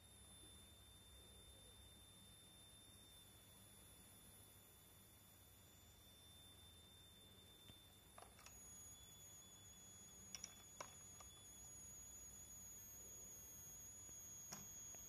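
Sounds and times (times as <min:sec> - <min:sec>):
high-pitched coil whine: 0:00.0 - 0:15.0.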